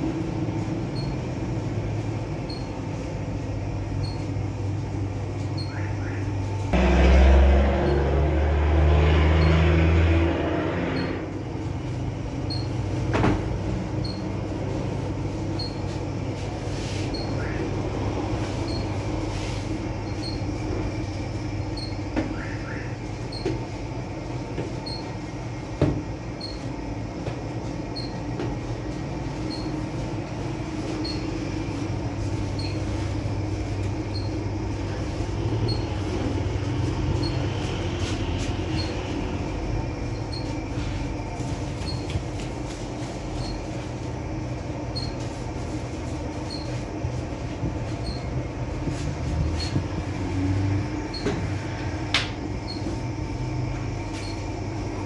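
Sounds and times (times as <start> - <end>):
bakery machinery rumble and hum: 0.0 - 55.0.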